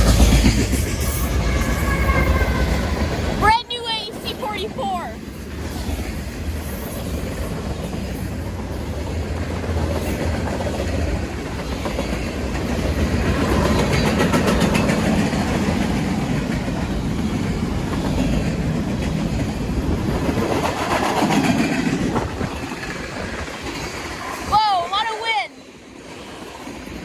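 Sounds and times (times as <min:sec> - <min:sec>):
wheels clattering on rails: 0:00.0 - 0:25.1
freight train rumbling past: 0:00.0 - 0:27.0.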